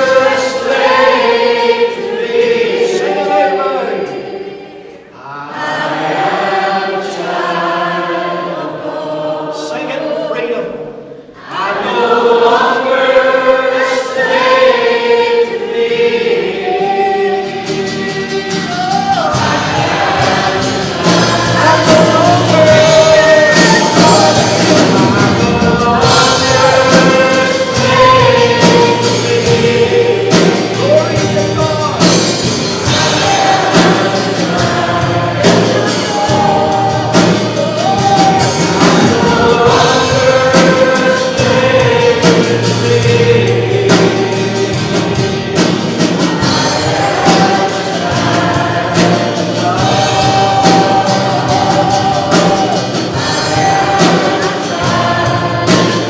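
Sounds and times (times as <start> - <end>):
instrumental accompaniment: 0.0 - 5.0, 11.4 - 56.0
group singing a hymn: 0.0 - 56.0.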